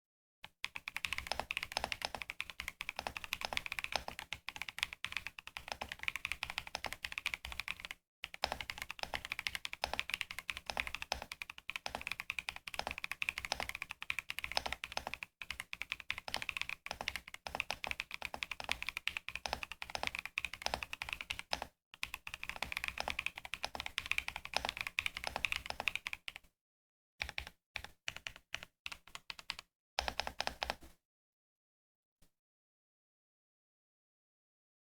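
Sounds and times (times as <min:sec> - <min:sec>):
typing on mechanical keyboard: 0:00.6 - 0:26.5, 0:27.2 - 0:30.9.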